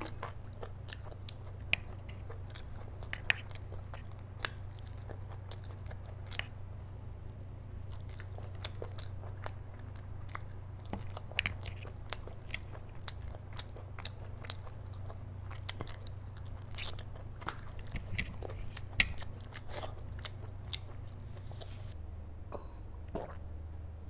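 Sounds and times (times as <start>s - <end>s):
person chewing food: 0.0s - 22.0s, 23.1s - 23.4s
steady low hum: 0.0s - 24.0s.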